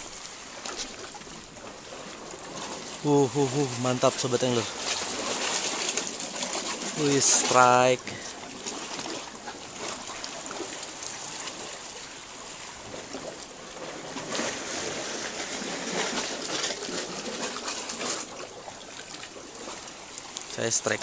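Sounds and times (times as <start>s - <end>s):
seawater washing among rocks: 0.0s - 21.0s.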